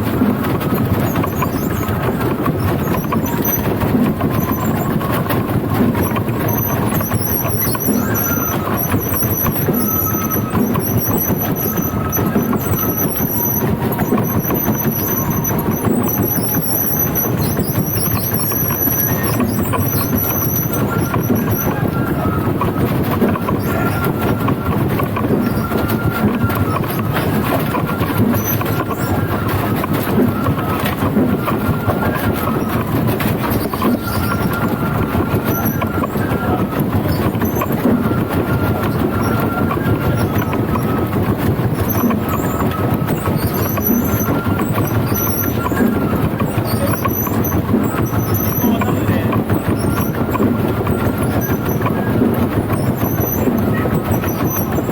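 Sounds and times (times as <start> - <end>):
float rumbling along street: 0.0 - 54.9
wheels squealing: 0.0 - 54.9.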